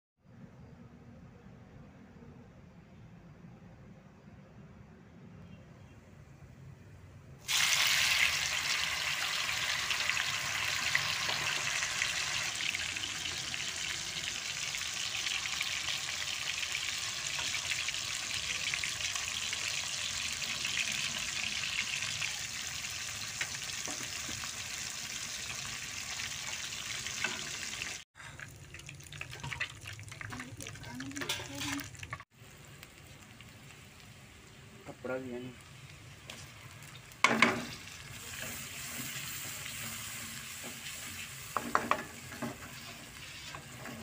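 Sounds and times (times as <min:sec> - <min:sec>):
chicken sizzling in hot oil: 0:07.4 - 0:44.0.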